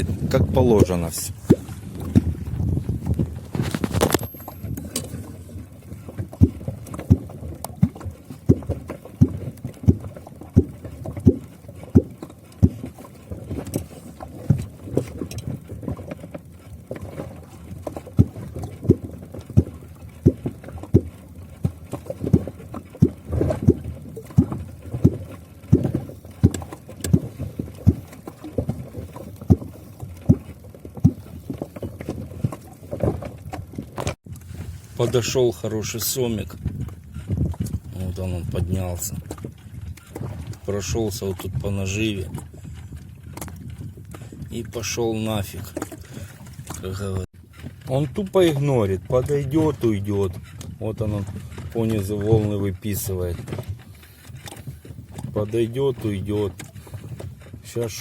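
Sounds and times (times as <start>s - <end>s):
low water plops: 0.0s - 58.0s.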